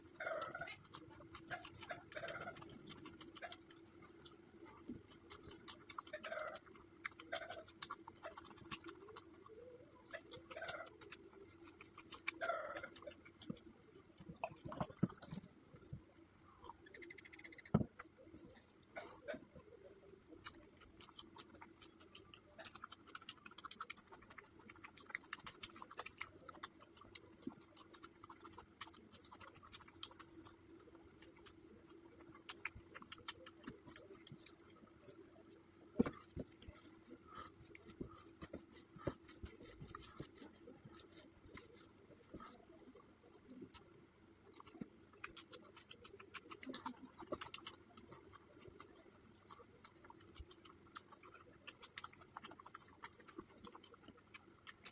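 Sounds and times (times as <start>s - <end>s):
chewing with mouth clicks: 0.0s - 54.9s.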